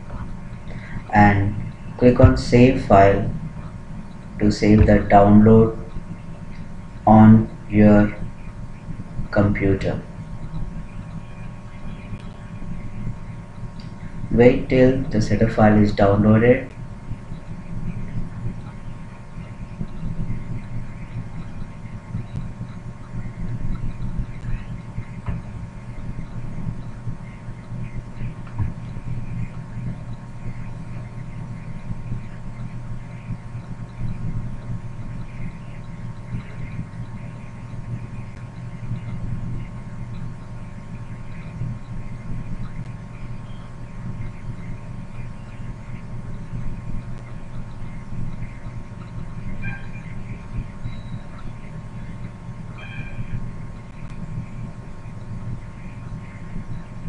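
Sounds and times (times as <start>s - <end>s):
low hum with throbbing: 0.0s - 57.0s.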